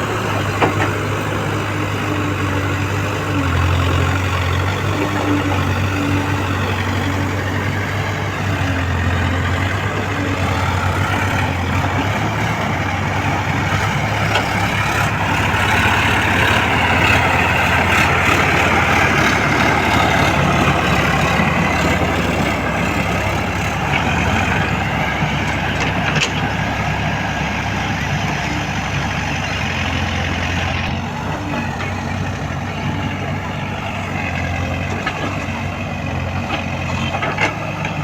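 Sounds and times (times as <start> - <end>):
backhoe loader diesel engine: 0.0 - 38.0
tractor diesel engine: 0.0 - 38.0.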